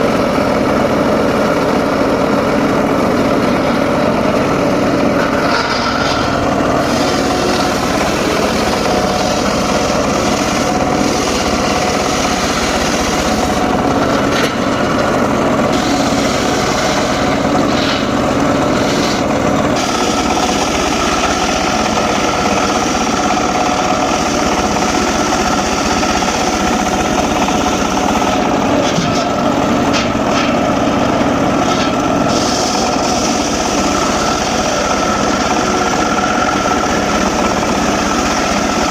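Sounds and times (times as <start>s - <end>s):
circular sawmill running: 0.0s - 38.9s.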